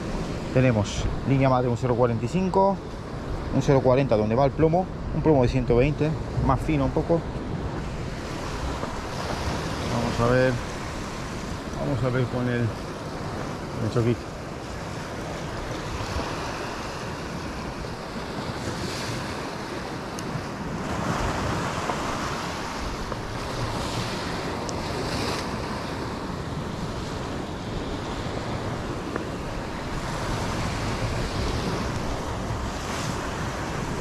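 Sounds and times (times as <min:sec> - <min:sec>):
sea waves washing on shore: 0:00.0 - 0:34.0
wind buffeting microphone: 0:00.0 - 0:34.0.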